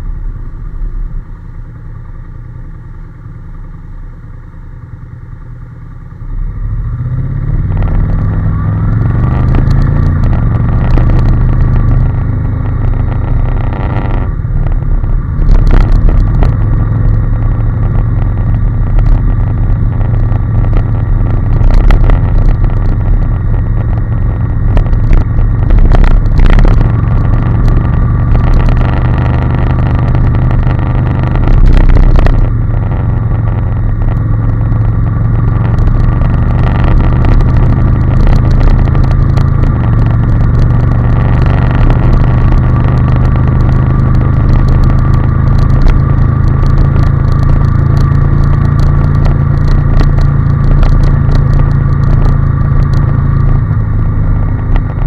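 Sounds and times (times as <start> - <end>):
motorcycle engine accelerating: 0.0 - 55.0
wind noise on microphone: 7.0 - 55.0.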